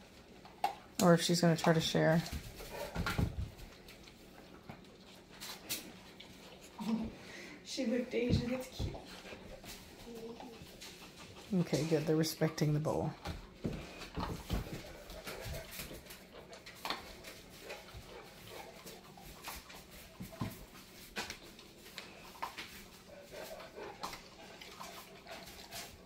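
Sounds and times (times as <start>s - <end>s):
puppies crunching dry food: 0.0s - 26.0s.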